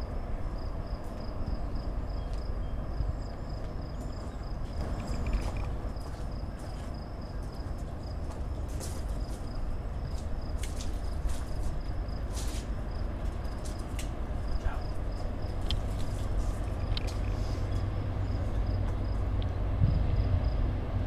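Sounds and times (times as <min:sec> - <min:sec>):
high insect chirp: 0:00.0 - 0:19.3
distant train rumbling: 0:00.0 - 0:21.0.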